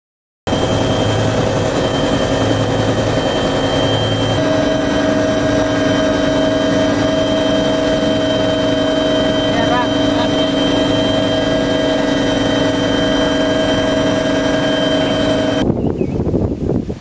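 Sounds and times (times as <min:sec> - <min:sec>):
high whine: 0:00.5 - 0:16.6
helicopter rotor and engine din: 0:00.5 - 0:16.9.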